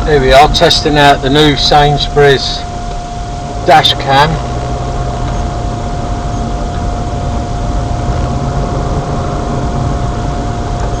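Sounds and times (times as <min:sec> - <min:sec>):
engine and road rumble: 0:00.0 - 0:11.0
thin steady whine: 0:00.0 - 0:11.0.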